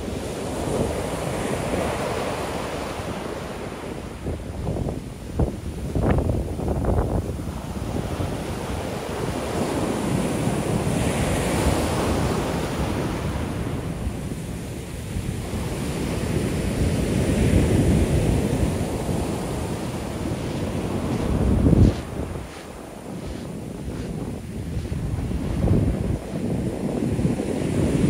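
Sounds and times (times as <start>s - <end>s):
ocean waves crashing on beach: 0.0s - 28.0s.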